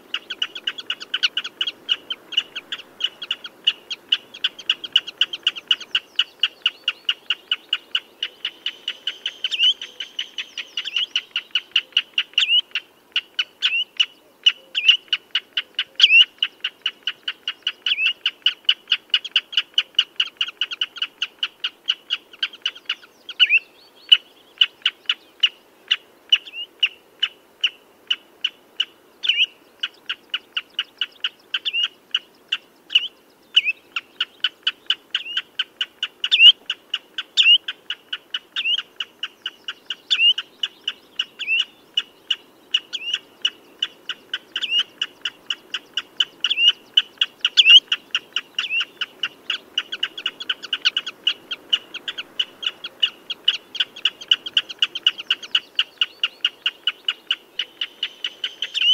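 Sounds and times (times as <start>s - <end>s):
bird piping calls: 0.0s - 58.9s.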